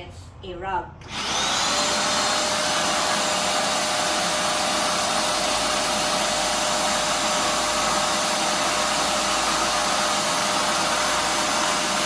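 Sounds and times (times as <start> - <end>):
vacuum cleaner running: 1.0 - 12.0.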